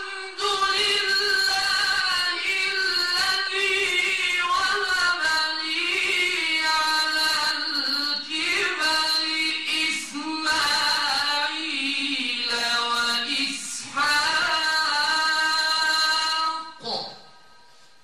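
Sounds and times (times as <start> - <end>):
man reciting in melodic chant: 0.0 - 17.4.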